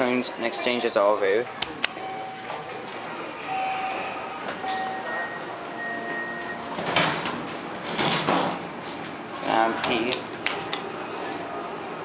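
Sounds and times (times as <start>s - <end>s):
elevator doors sliding: 1.9s - 12.0s.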